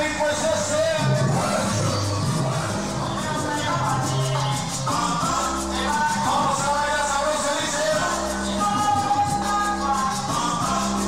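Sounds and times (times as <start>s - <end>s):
held bass notes: 0.0s - 11.0s
latin dance music: 0.0s - 11.0s
shaker keeping a beat: 0.4s - 11.0s.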